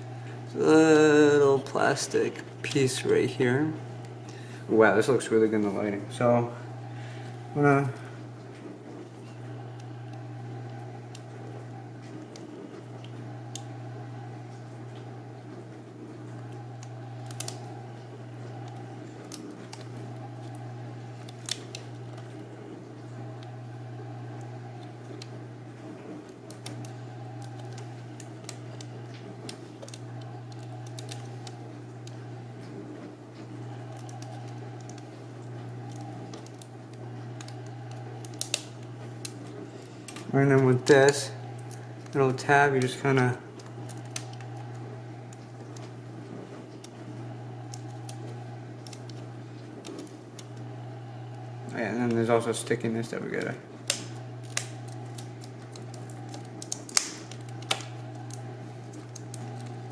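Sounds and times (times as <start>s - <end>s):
steady low hum: 0.0s - 59.9s
small clicks and light scratching: 7.8s - 13.8s, 14.5s - 23.6s, 24.3s - 42.2s, 42.8s - 50.7s, 51.3s - 59.9s.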